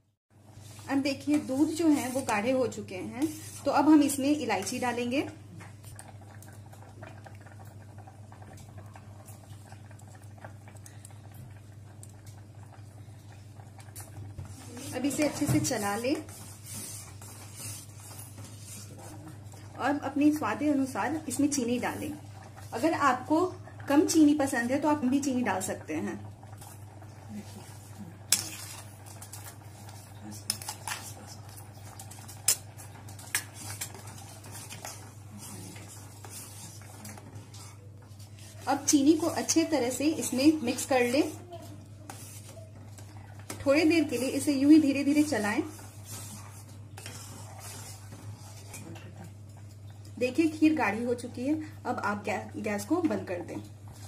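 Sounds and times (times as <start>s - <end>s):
milk and rice simmering in a pot: 0.0s - 54.0s.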